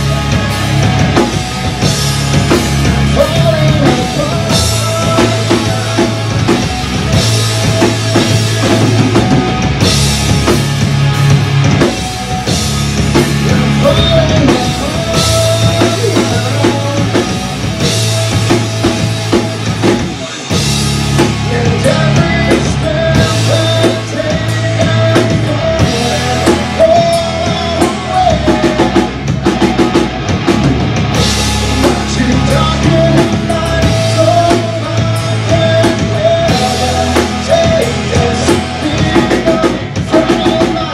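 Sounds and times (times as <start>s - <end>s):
bass guitar: 0.0s - 40.9s
distorted electric guitar: 0.0s - 40.9s
drum kit: 0.0s - 40.9s.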